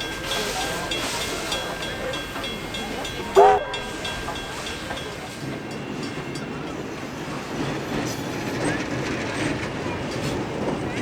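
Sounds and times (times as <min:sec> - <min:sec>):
steam train rolling on track: 0:00.0 - 0:11.0.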